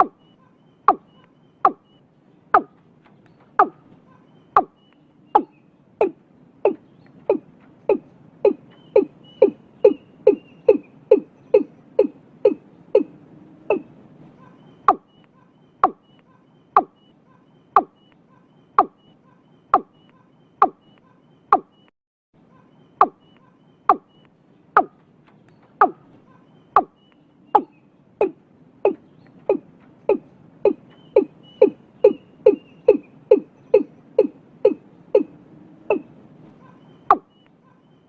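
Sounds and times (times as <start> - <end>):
bird calling deep falling notes: 0.0 - 21.9, 22.7 - 38.0.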